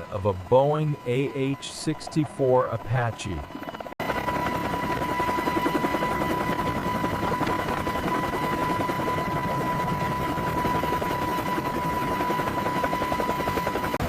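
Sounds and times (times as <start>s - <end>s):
helicopter rotor chop: 0.0s - 14.0s
turbine whine: 0.0s - 14.0s.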